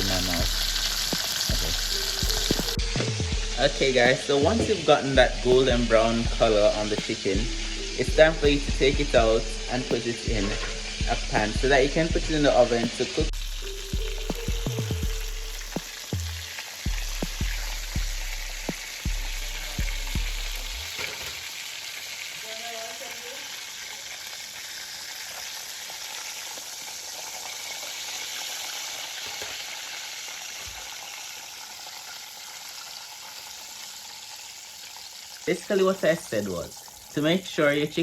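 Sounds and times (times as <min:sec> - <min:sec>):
chicken deep-frying in oil: 0:00.0 - 0:38.0.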